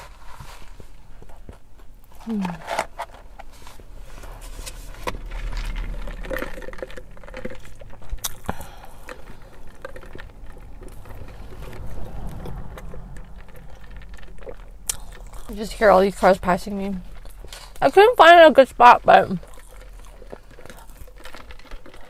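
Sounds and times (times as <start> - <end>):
cars passing outside: 0.0 - 22.0
steady rumble: 0.0 - 22.0.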